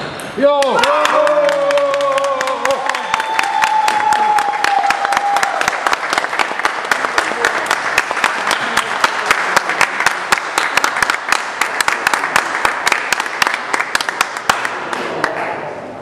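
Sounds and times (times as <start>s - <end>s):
audience applauding: 0.6s - 15.5s.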